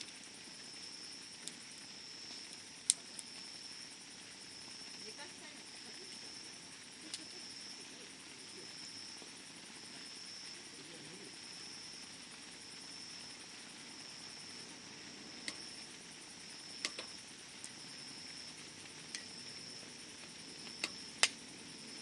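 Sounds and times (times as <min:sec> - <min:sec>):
campfire burning: 0:00.0 - 0:22.0.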